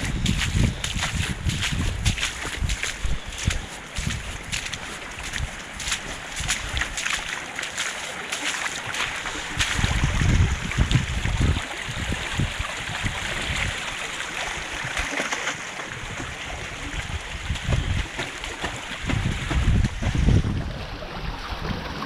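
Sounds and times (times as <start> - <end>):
wind buffeting microphone: 0.0 - 7.3, 8.9 - 15.2, 15.9 - 22.0
water rushing through garden: 0.0 - 22.0.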